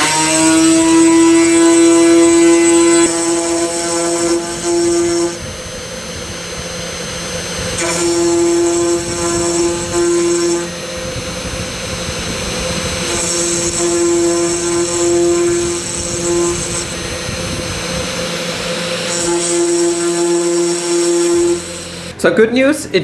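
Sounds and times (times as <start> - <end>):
cutting whine and hiss: 0.0 - 22.2
router spindle steady tone: 0.0 - 22.2.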